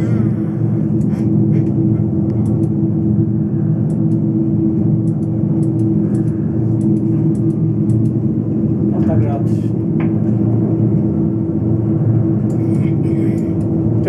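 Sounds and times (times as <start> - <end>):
wind turbine droning hum: 0.0 - 14.0.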